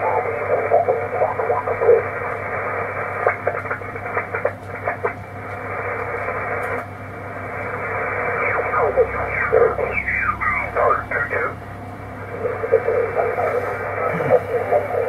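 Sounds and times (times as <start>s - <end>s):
garbled radio voices: 0.0s - 5.2s, 7.9s - 15.0s
radio band hiss: 0.0s - 15.0s.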